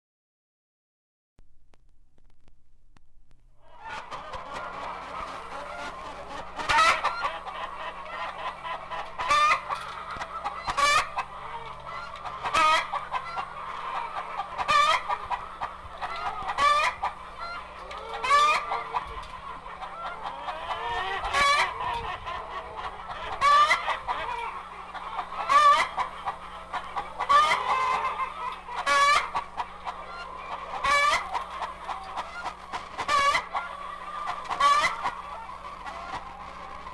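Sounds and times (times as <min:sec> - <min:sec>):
chickens clucking: 0:03.6 - 0:36.9
loud sharp chicken call: 0:03.6 - 0:36.9.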